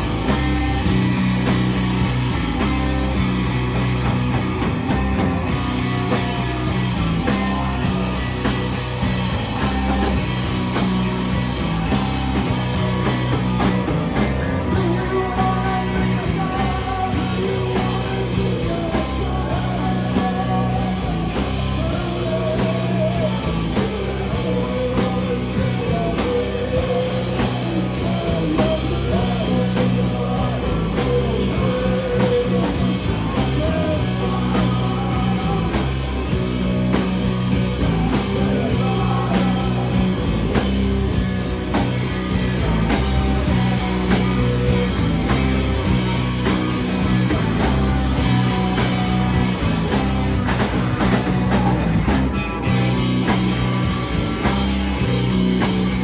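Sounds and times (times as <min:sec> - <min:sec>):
bass and drums groove: 0:00.0 - 0:56.0.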